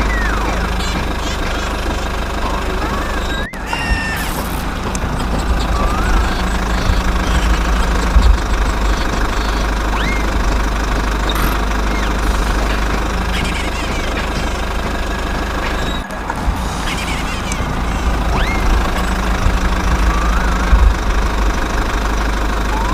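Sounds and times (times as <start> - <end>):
engine running with rough rumble: 0.0 - 22.9.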